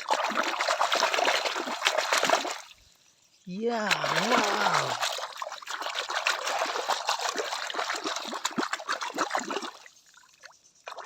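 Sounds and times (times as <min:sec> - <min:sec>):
water splashing over plastic toys: 0:00.0 - 0:02.7, 0:03.6 - 0:11.0.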